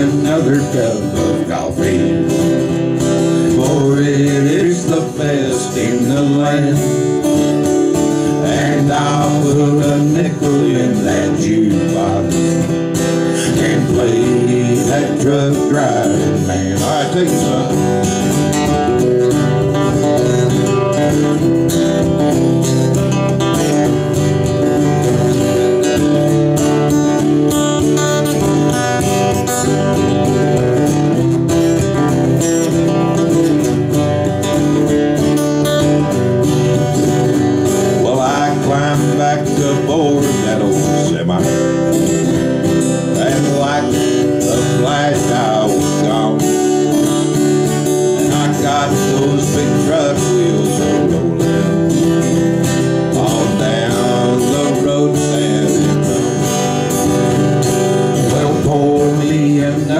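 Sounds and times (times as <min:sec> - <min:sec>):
acoustic guitar lead melody: 0:00.0 - 0:59.9
acoustic guitar strumming: 0:00.0 - 0:59.9.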